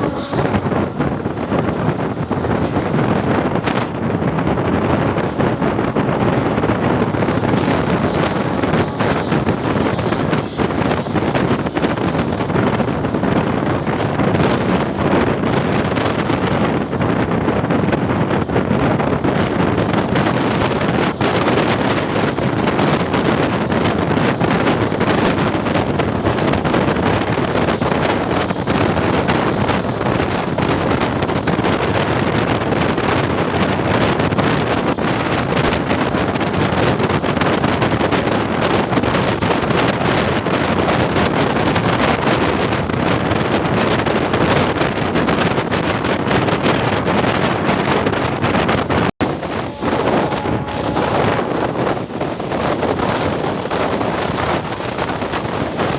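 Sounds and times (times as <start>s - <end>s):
train coach running at speed: 0.0s - 55.9s
wind buffeting microphone: 0.0s - 55.9s.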